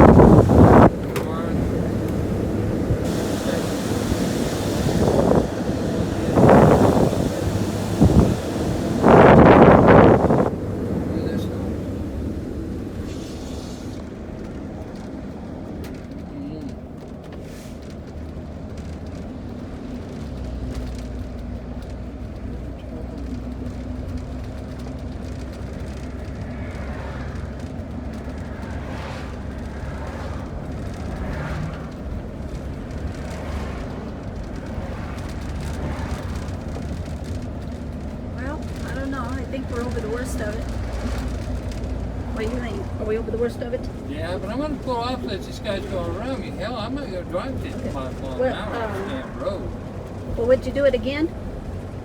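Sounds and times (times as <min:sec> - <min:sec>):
engine and road rumble in cab: 0:00.0 - 0:52.0.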